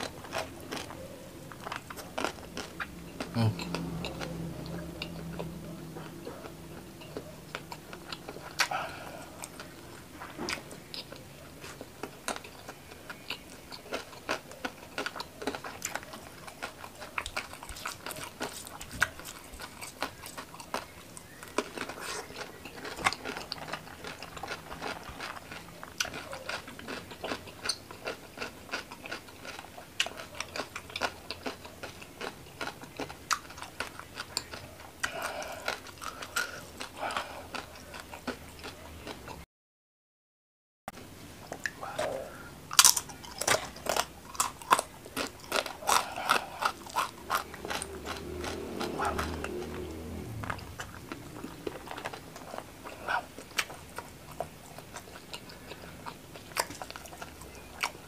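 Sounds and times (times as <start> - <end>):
person chewing crunchy food: 0.0 - 39.4, 41.4 - 58.0.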